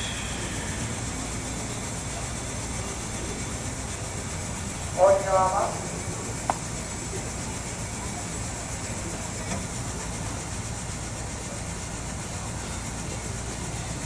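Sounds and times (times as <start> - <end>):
stadium background hum and hiss: 0.0 - 14.0.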